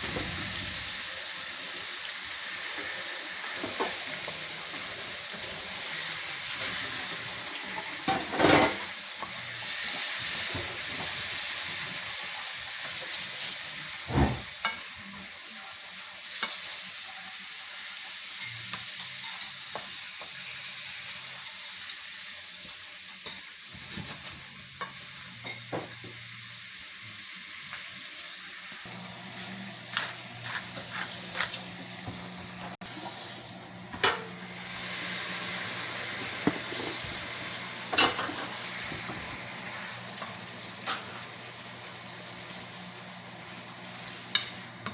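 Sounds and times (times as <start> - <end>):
food sizzling in oil: 0.0 - 44.9.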